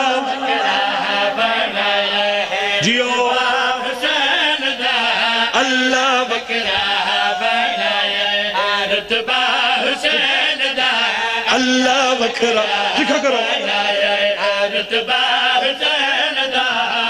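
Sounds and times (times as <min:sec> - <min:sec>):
man chanting through loudspeakers: 0:00.0 - 0:17.0.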